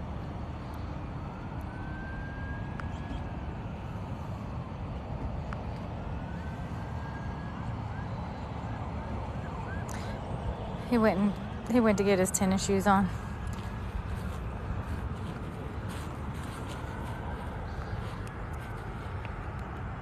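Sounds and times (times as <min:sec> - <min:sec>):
distant siren wailing: 0:00.0 - 0:20.0
steady low rumble: 0:02.5 - 0:20.0.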